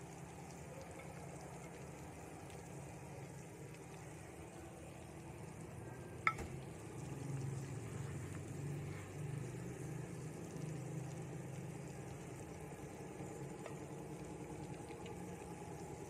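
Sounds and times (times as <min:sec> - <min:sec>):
low steady hum: 0:00.0 - 0:16.0
meat frying in oil: 0:00.0 - 0:16.0.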